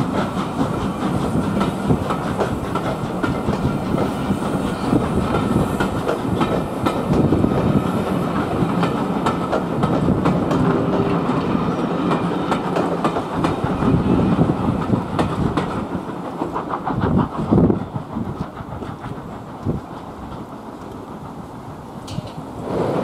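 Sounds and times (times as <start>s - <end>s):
train rolling rumble: 0.0s - 23.0s
train wheels clicking over rail joints: 0.0s - 23.0s.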